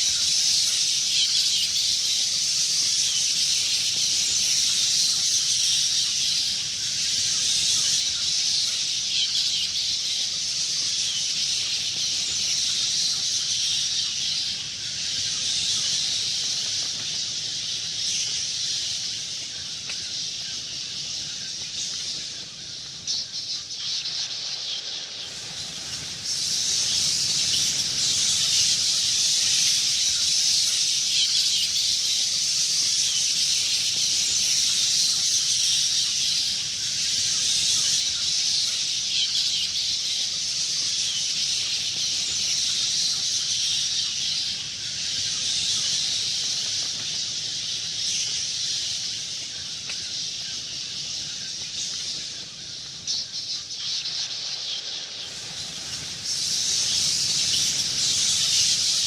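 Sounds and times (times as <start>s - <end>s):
bats chittering: 0.0s - 59.0s.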